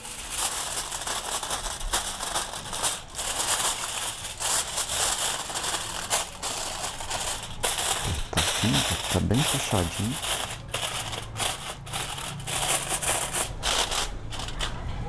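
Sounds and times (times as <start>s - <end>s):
aluminium foil crinkling: 0.0s - 14.8s.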